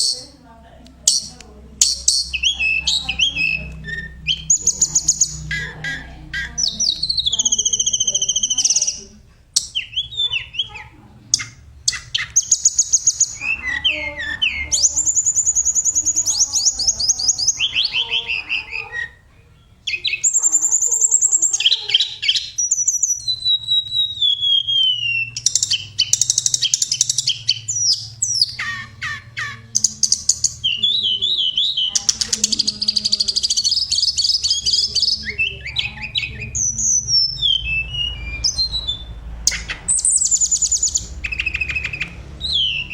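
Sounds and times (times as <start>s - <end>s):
songbird singing trills: 0.0s - 42.9s.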